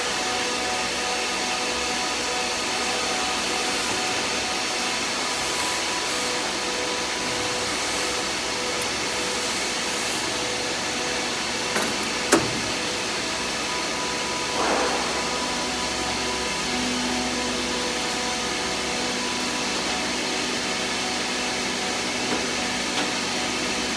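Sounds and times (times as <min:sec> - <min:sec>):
air compressor whirring hiss: 0:00.0 - 0:23.9.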